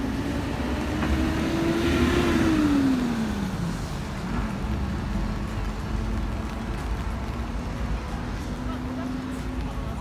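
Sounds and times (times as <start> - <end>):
vehicle passing on wet street: 0.0 - 10.0.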